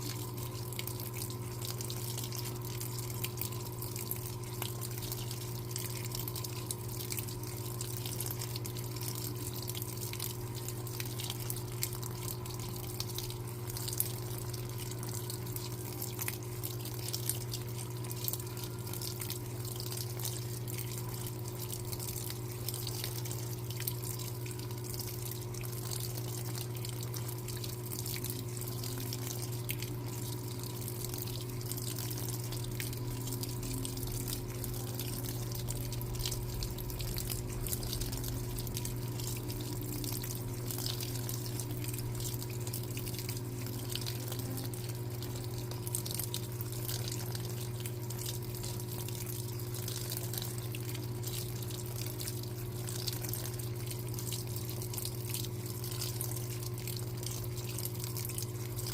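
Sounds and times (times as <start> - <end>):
washing machine hum: 0.0 - 58.9
water splashing in tub: 0.0 - 58.9.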